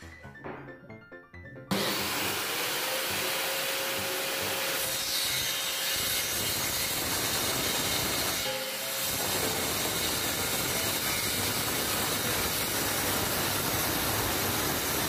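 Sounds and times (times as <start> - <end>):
circular saw cutting wood: 1.7 - 15.0.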